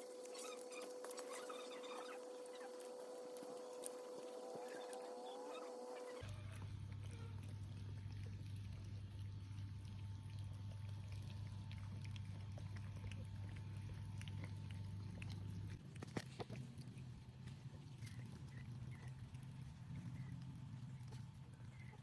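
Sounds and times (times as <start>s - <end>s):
cat chewing: 0.0s - 5.3s, 6.1s - 22.0s
low electrical hum: 0.0s - 22.0s.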